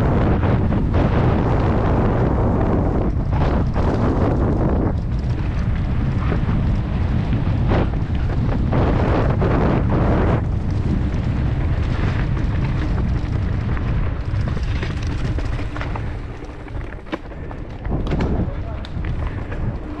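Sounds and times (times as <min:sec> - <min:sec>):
bike rattling and knocking: 0:00.0 - 0:20.0
wind buffeting microphone: 0:00.0 - 0:20.0.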